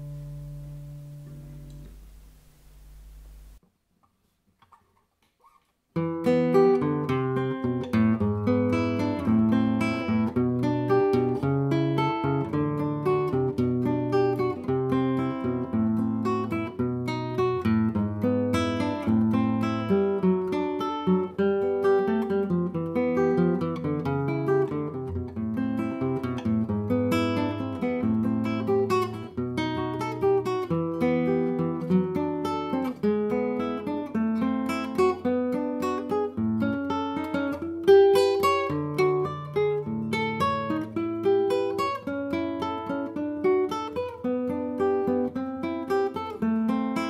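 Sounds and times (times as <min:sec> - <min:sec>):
solo classical guitar: 0:00.0 - 0:03.6, 0:04.6 - 0:47.0.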